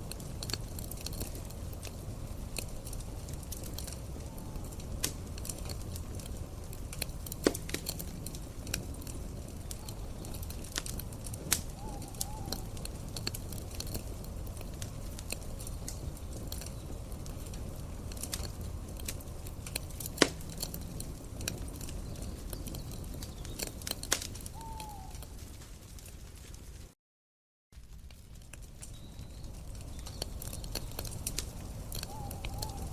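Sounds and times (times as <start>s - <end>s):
campfire crackling: 0.0s - 27.0s, 27.8s - 32.9s
fire popping: 0.0s - 27.0s, 27.8s - 32.9s.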